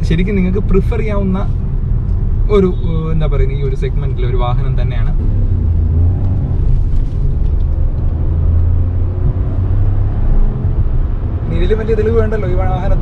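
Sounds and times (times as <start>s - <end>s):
car engine and tyres droning: 0.0s - 13.0s.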